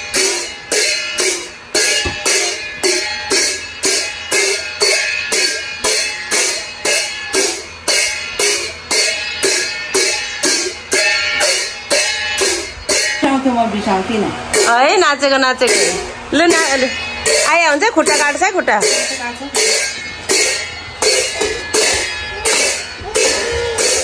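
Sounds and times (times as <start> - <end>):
hand cymbals clashing: 0.0 - 13.6, 14.5 - 24.0.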